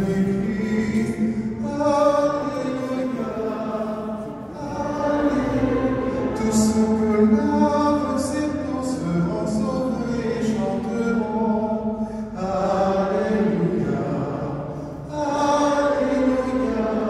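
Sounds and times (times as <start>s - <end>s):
congregation singing a slow chant: 0.0s - 17.0s.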